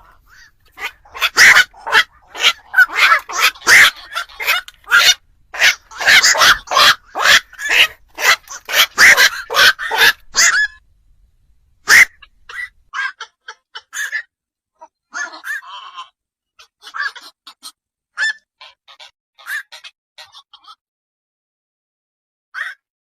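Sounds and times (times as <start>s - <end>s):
heron harsh croaks: 0.0s - 10.8s, 11.8s - 20.8s.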